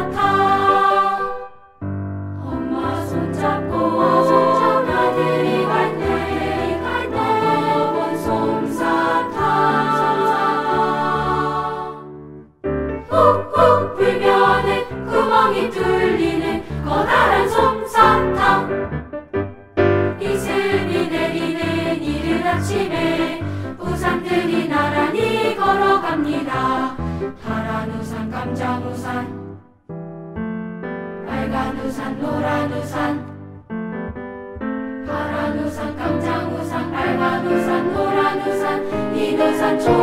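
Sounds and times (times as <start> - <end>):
children's choir singing: 0.0 - 1.7, 2.4 - 12.2, 13.0 - 18.8, 20.2 - 29.5, 31.2 - 33.4, 35.0 - 40.0
piano accompaniment: 0.0 - 40.0.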